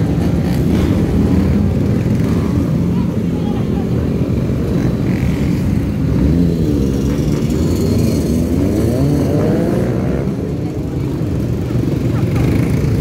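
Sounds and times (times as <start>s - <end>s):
motorcycle and quad engines revving: 0.0s - 13.0s.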